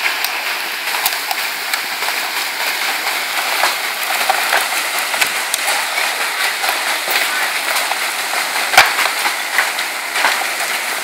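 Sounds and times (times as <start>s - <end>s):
hail ticking impacts: 0.0s - 11.0s
heavy rain hissing: 0.0s - 11.0s.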